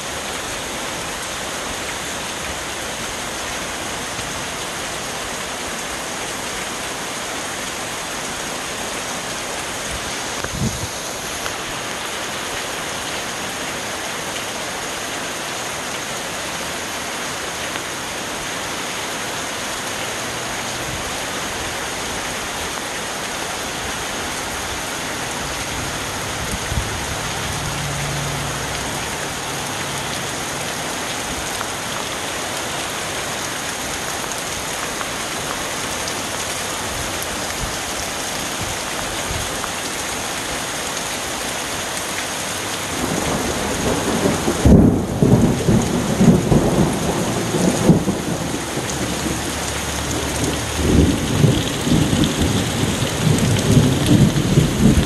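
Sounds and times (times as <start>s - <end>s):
heavy rain on trees and leaves: 0.0s - 55.0s.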